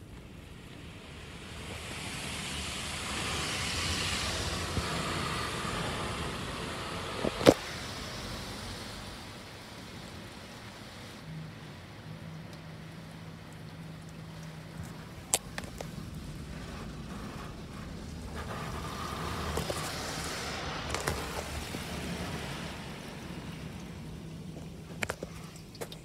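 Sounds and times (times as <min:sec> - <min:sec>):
water spraying over glass: 0:00.6 - 0:09.2, 0:12.7 - 0:26.0.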